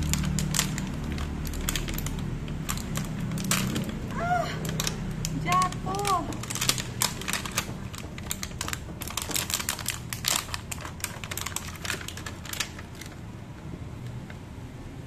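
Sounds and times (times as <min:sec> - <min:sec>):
plastic container crackling: 0:00.0 - 0:14.3.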